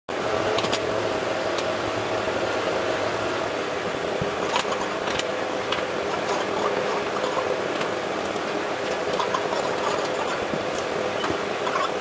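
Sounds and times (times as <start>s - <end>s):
steady mechanical hum: 0.1s - 12.0s.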